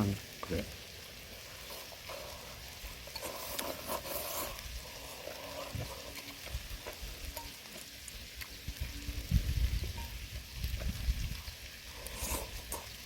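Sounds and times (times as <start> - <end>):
meat sizzling on a grill pan: 0.0 - 13.0.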